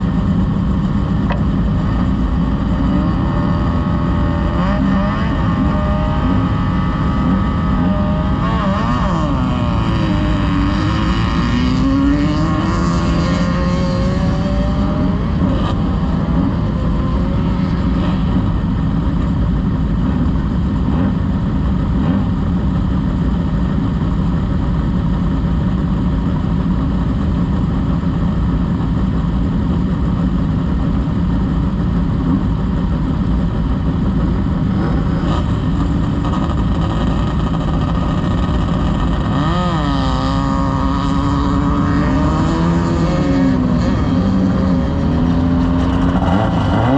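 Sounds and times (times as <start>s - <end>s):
race vehicle engine revving: 0.0s - 23.2s, 31.4s - 46.9s.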